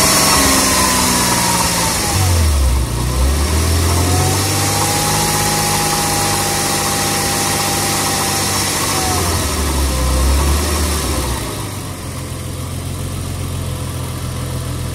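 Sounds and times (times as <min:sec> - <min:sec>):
car engine running: 0:00.0 - 0:14.9.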